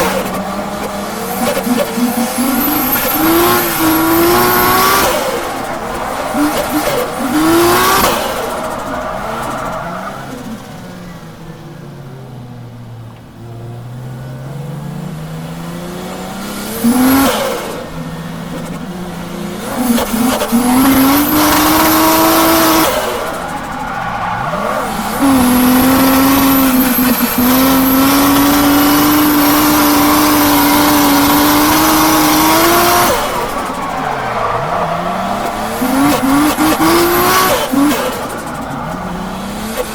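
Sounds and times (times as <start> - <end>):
misfiring car engine revving: 0.0 - 39.9.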